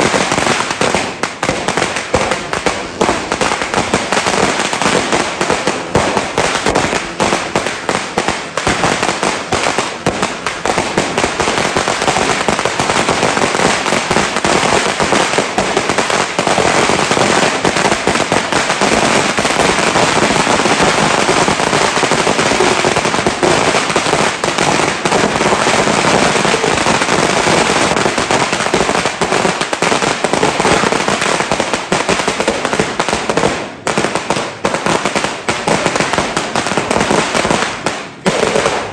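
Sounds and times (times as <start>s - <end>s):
firecrackers crackling and popping: 0.0s - 38.9s.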